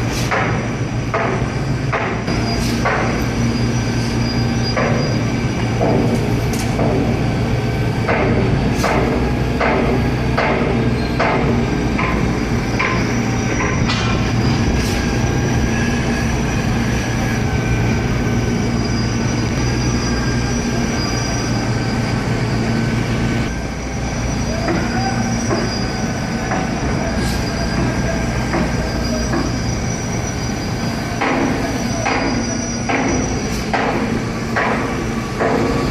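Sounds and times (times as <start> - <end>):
truck engine drone: 0.0 - 35.9.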